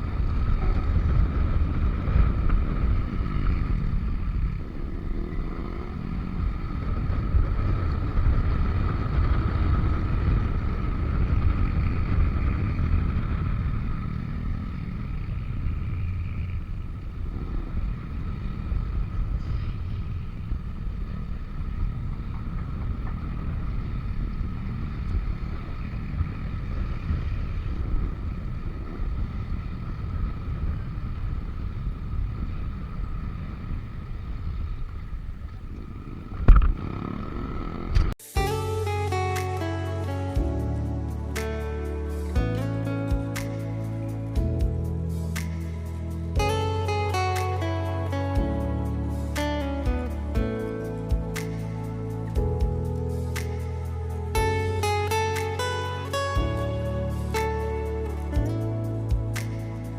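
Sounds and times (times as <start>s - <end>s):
scooter engine running: 0.0s - 59.9s
steady high whine: 0.0s - 59.9s
wind on microphone: 0.0s - 59.9s.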